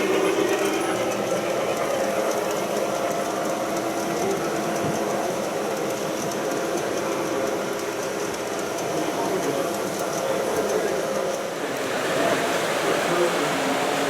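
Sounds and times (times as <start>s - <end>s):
model train motor hum: 0.0s - 14.0s.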